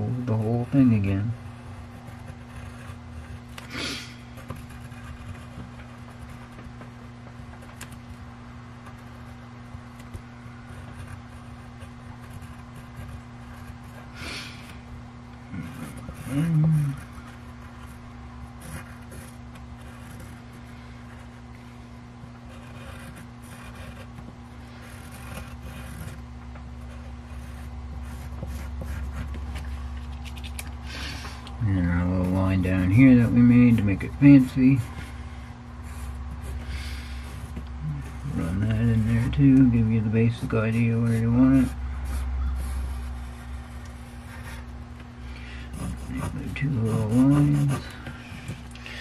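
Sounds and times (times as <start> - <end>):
pen scratching on paper: 0.0 - 8.1, 8.8 - 14.8, 15.5 - 21.5, 22.4 - 31.1, 31.8 - 35.2, 35.8 - 44.8, 45.4 - 48.6
steady low hum: 0.0 - 49.0.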